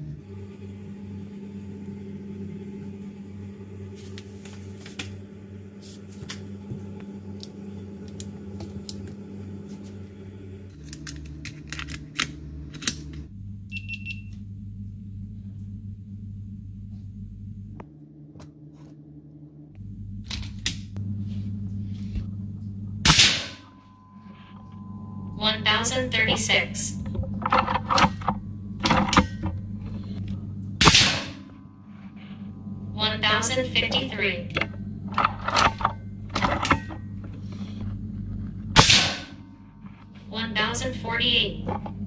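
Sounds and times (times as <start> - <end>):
low background music: 0.0 - 13.4, 18.0 - 42.0.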